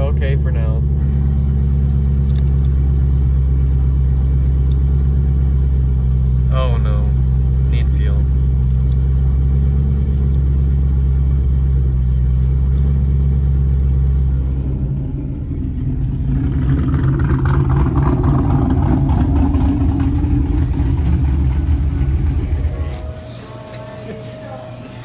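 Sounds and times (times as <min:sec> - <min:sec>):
car engine idling: 0:00.0 - 0:25.0
second car idling: 0:00.0 - 0:25.0.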